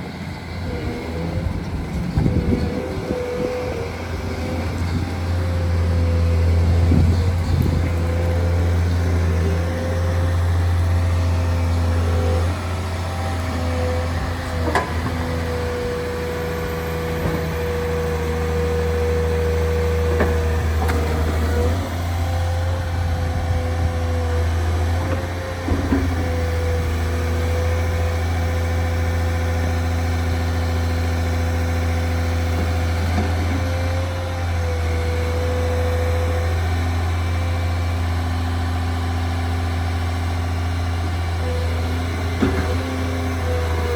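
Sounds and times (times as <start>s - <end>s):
diesel excavator engine running: 0.0s - 43.9s.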